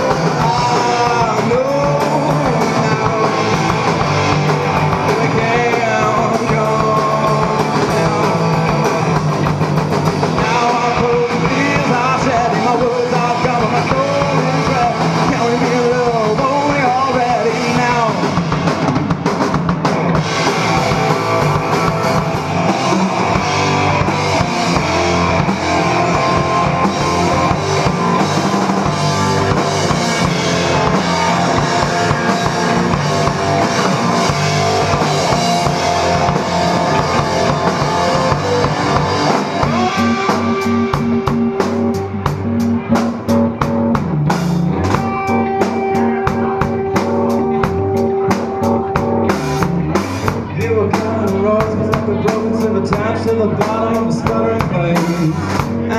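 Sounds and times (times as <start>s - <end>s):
distorted electric guitar: 0.0s - 55.9s
drum kit: 0.0s - 55.9s
electric bass: 0.0s - 55.9s.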